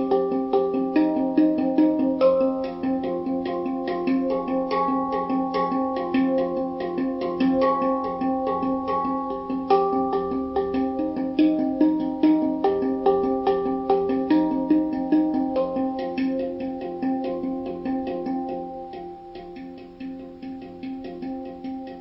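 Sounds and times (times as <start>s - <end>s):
handpan music: 0.0s - 22.0s.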